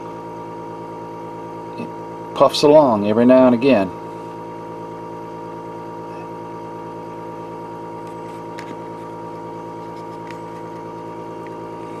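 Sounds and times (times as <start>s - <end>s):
machine hum with high tone: 0.0s - 12.0s.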